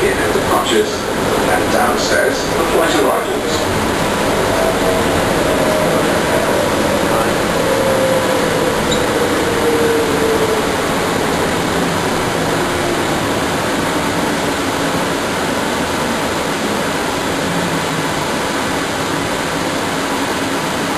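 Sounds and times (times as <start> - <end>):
train motor whine: 0.0 - 19.4
train rushing noise: 0.0 - 20.9.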